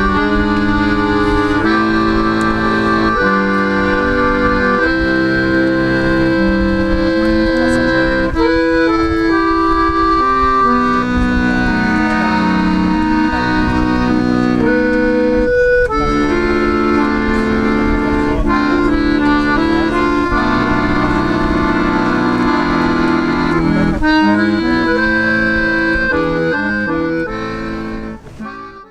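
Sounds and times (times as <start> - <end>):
accordion melody: 0.0 - 28.9.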